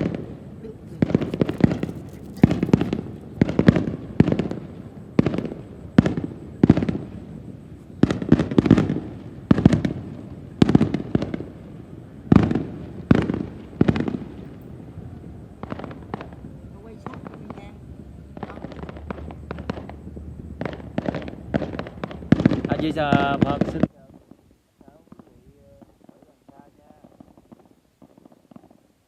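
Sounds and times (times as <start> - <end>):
fireworks bursting with sharp bangs: 0.0 - 29.0.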